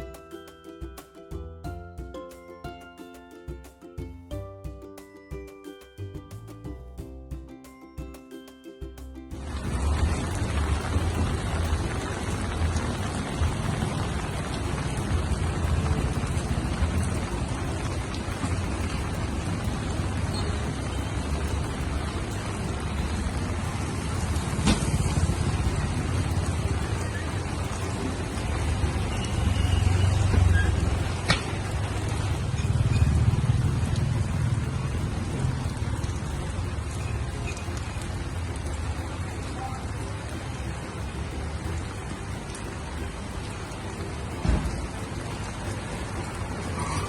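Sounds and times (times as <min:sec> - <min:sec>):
strong rain pouring: 0:09.3 - 0:47.0.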